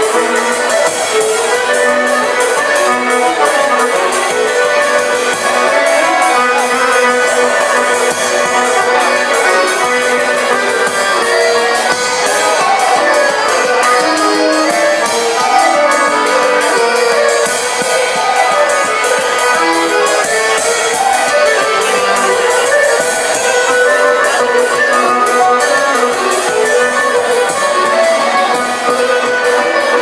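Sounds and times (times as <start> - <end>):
accordion ensemble playing folk music: 0.0 - 30.0
steady percussion beat: 0.0 - 30.0.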